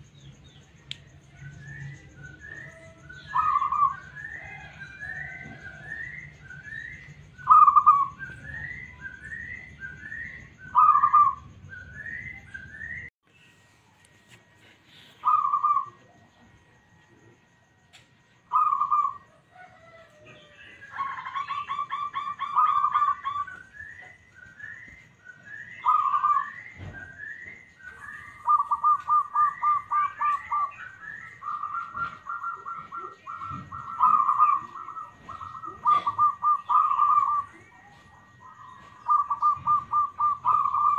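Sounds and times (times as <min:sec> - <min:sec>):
doves cooing: 0:00.0 - 0:13.1, 0:14.6 - 0:17.6, 0:18.4 - 0:40.9
soft high bird chirps: 0:00.0 - 0:40.9.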